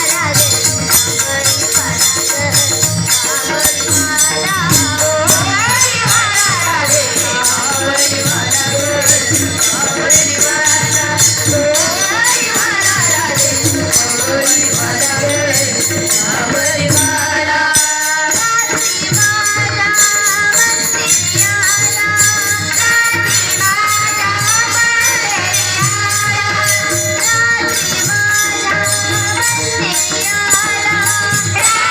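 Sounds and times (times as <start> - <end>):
jingling percussion: 0.0 - 31.9
woman singing: 0.0 - 31.9.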